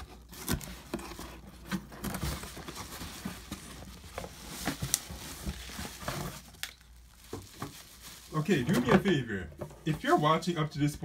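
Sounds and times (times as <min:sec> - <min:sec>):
bubble wrap rustling: 0:00.0 - 0:09.2
cardboard rustling: 0:00.0 - 0:10.5.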